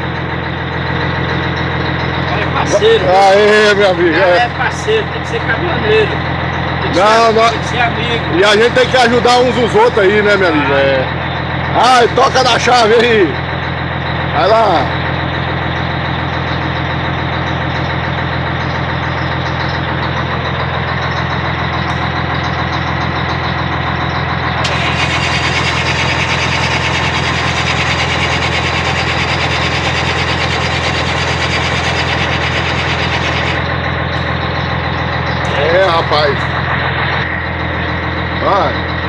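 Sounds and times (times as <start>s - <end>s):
diesel truck engine droning: 0.0s - 39.0s.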